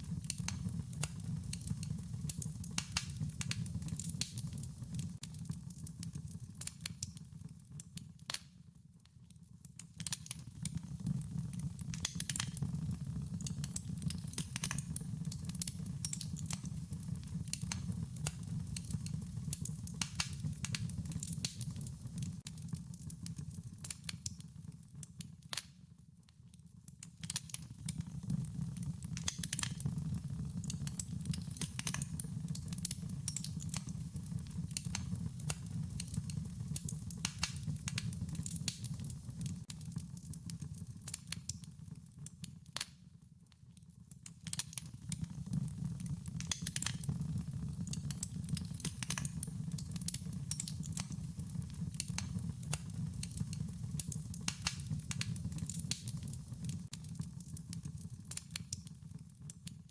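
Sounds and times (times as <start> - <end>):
wood fire crackling: 0.0 - 25.8, 26.8 - 43.0, 44.0 - 59.6.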